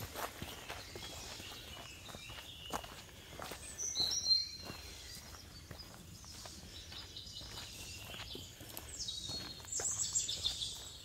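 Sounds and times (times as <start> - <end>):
birds calling: 0.0 - 11.0
footsteps on dirt trail: 0.0 - 11.0.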